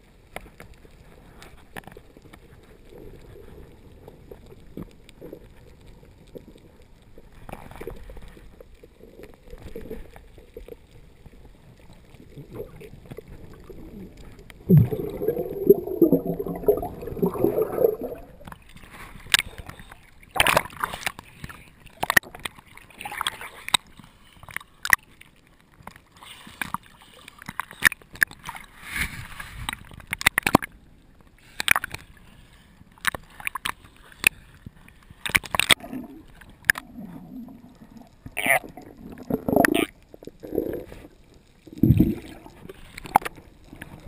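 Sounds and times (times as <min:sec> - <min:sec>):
sea water splashing: 0:00.0 - 0:44.0
underwater bubbling gurgle: 0:00.0 - 0:44.0.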